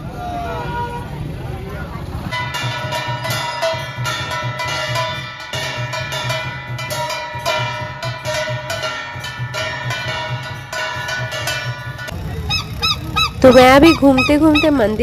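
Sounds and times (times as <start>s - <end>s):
music with percussive beat: 2.3s - 15.0s.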